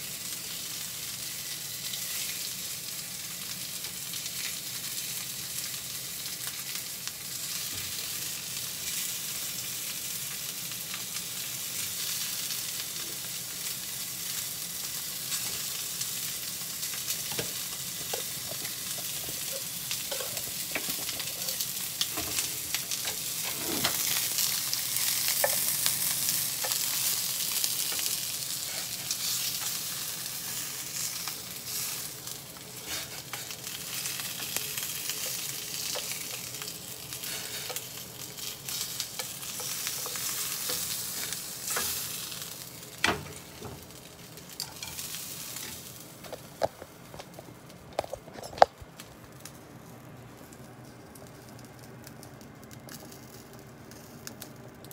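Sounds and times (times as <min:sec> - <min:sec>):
meat sizzling in a frying pan: 0:00.0 - 0:48.1, 0:48.9 - 0:54.9.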